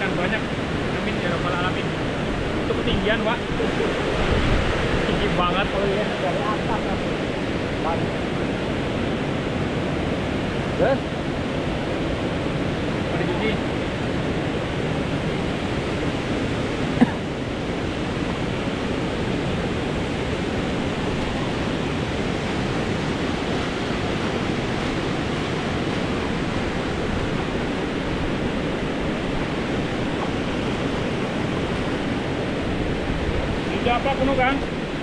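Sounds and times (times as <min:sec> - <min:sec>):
river water rushing over weir: 0:00.0 - 0:35.0.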